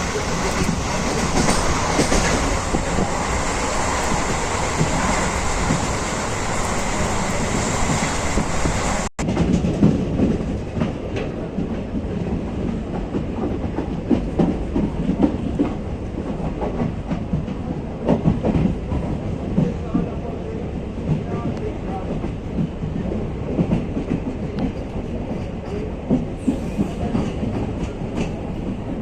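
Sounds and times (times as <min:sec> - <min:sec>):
train wheels clattering: 0:00.0 - 0:20.2, 0:21.0 - 0:29.0
train rushing noise: 0:00.0 - 0:29.0.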